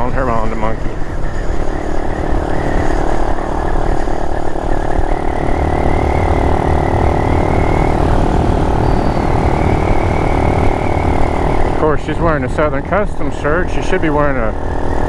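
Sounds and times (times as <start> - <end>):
mini motorcycle engine running: 0.0 - 15.0
wind rumble on microphone: 0.0 - 15.0.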